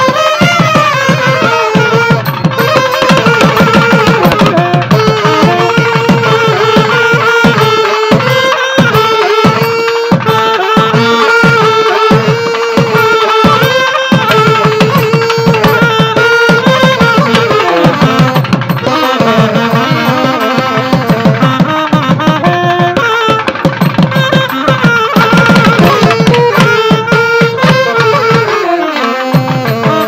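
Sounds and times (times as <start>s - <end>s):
hand drum strokes: 0.0s - 30.0s
reed wind instrument melody: 0.0s - 30.0s.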